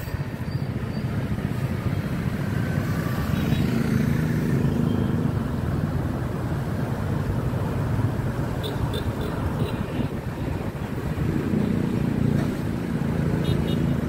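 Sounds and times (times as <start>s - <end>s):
motorbike traffic: 0.0s - 14.0s.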